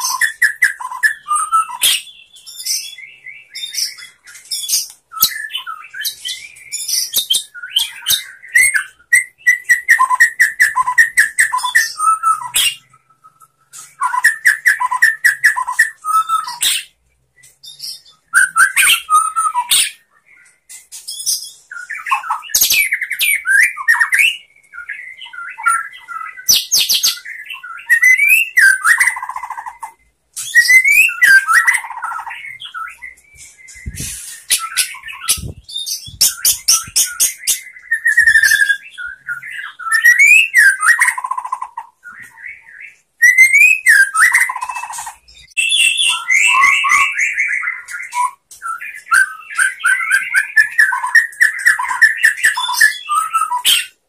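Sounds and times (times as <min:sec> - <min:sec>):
songbird singing whistles: 0:00.0 - 0:54.0.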